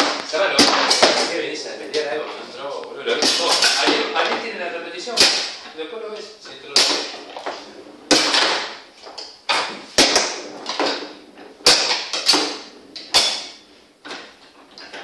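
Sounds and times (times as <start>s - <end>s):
foosball ball clacking: 0.0s - 2.1s, 3.0s - 5.7s, 6.7s - 15.0s.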